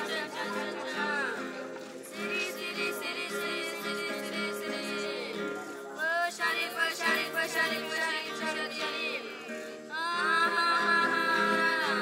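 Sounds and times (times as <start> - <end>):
nylon-string acoustic guitar: 0.0 - 12.0
person singing: 0.0 - 12.0.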